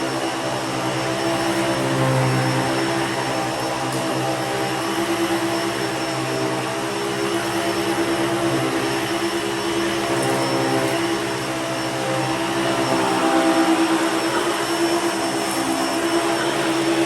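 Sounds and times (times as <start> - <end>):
upright vacuum cleaner running: 0.0 - 17.0.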